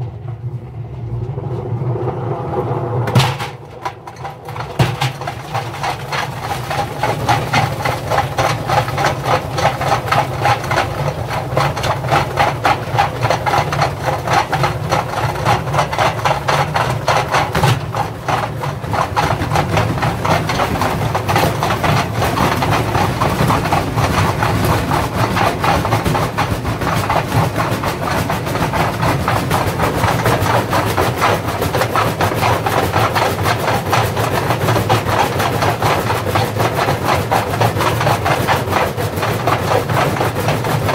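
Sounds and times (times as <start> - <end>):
washing machine drum humming: 2.6 - 40.9
bricks knocking in drum: 3.1 - 38.6.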